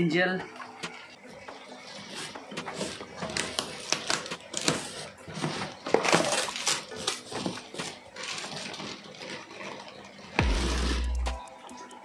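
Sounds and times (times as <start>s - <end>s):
plastic bags crinkling: 0.6s - 10.4s
sharp plastic crackles: 0.6s - 12.0s.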